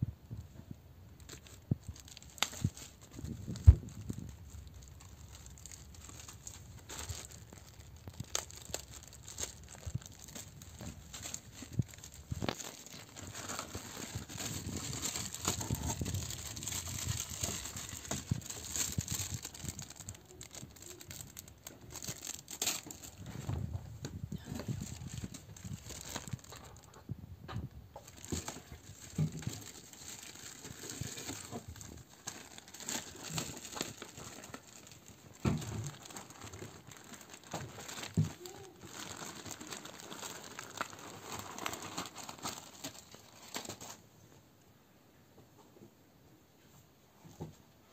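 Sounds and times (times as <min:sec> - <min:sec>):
plastic bag crinkling: 0:01.2 - 0:27.0, 0:28.0 - 0:44.0.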